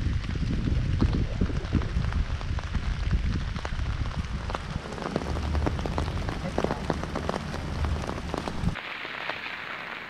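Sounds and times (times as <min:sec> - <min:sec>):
low rumble: 0:00.0 - 0:08.8
raindrops tapping: 0:00.0 - 0:10.0
steady rain hiss: 0:00.0 - 0:10.0.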